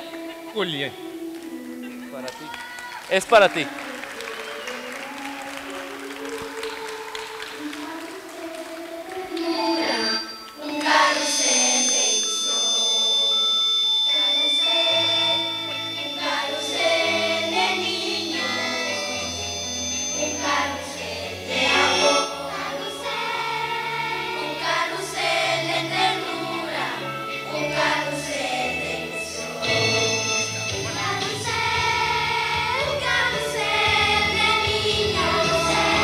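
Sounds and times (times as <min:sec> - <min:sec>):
girls' choir singing: 0:03.5 - 0:13.5, 0:14.1 - 0:36.0
instrumental accompaniment: 0:05.8 - 0:36.0.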